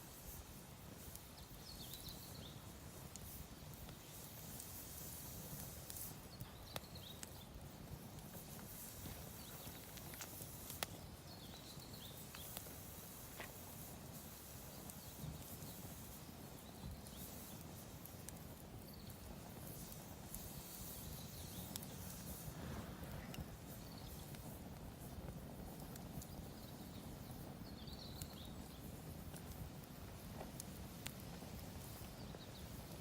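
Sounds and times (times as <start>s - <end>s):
campfire hissing: 0.0s - 33.0s
fire popping and crackling: 0.0s - 33.0s.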